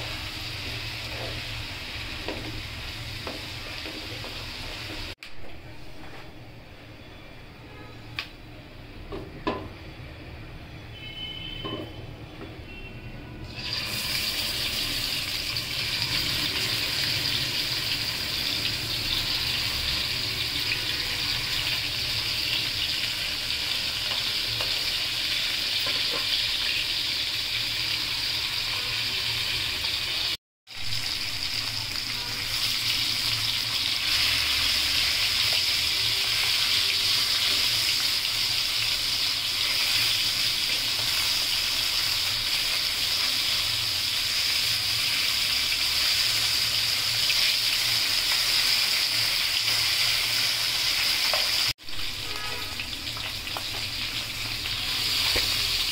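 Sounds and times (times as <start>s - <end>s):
fish sizzling in hot oil: 0.0s - 5.2s, 13.4s - 55.9s.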